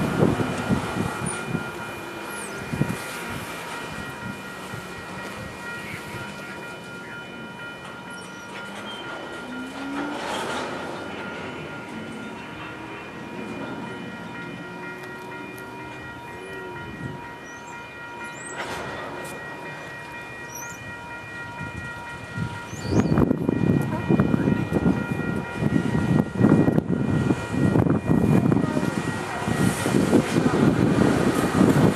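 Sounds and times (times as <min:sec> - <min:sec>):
freight cars rumbling on track: 0:00.0 - 0:15.3, 0:21.6 - 0:31.9.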